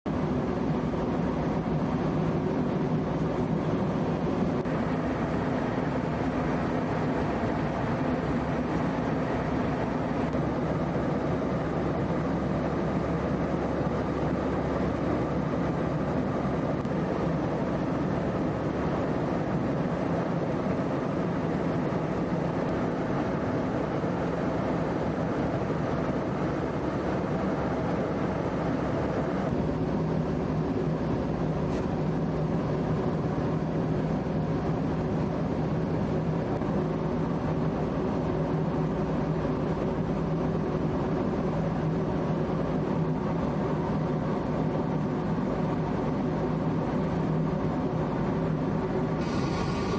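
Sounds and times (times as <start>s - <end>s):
jet engine drone in cabin: 0.1s - 49.9s
low hum of steady tones: 0.1s - 49.9s.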